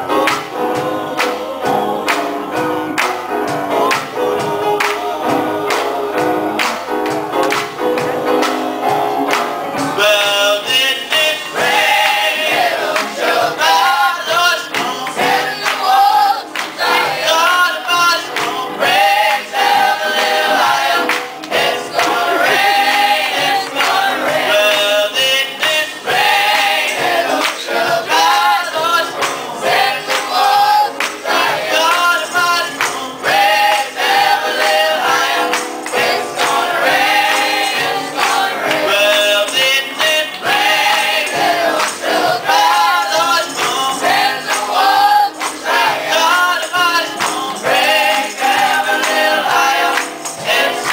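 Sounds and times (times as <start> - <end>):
boys choir singing: 0.0 - 50.9
lead voice singing: 0.0 - 50.9
hand claps: 2.1 - 5.9, 6.6 - 9.9, 11.1 - 50.9.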